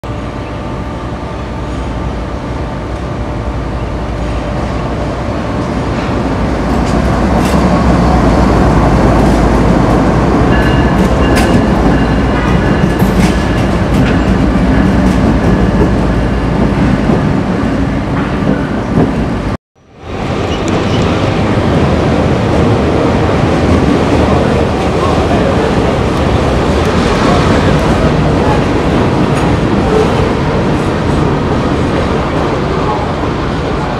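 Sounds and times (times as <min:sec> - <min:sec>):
diesel locomotive engines rumbling: 0:00.0 - 0:33.9.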